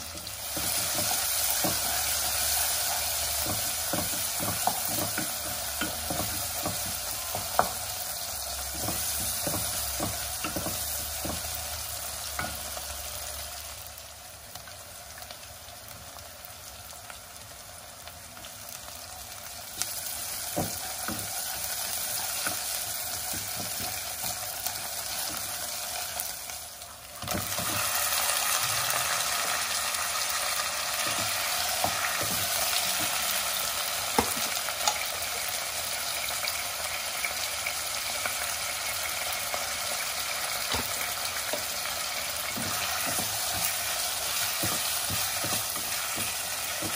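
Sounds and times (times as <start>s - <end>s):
food sizzling in a pot: 0.0s - 46.9s.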